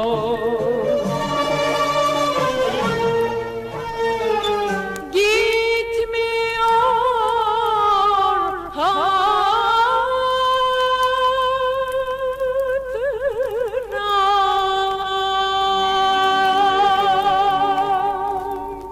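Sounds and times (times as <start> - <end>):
voice singing long gliding notes: 0.0 - 18.9.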